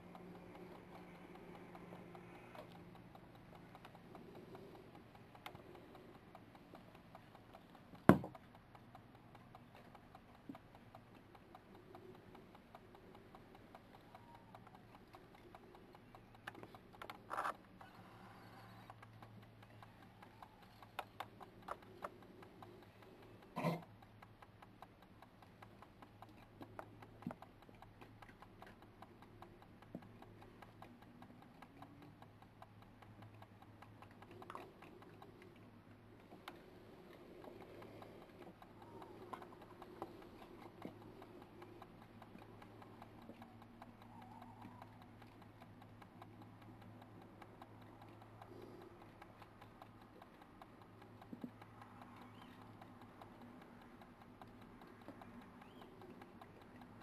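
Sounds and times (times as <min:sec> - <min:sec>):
faint clicks and ticks: 0:00.0 - 0:57.0
low steady hum: 0:00.0 - 0:57.0.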